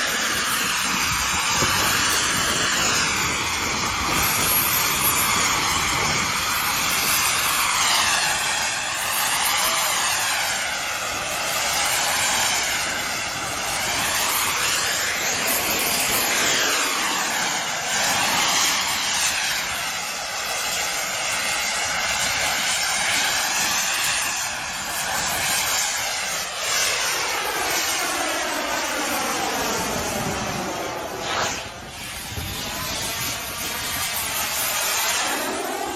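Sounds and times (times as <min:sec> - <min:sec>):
fighter jet engines roaring: 0:00.0 - 0:35.9.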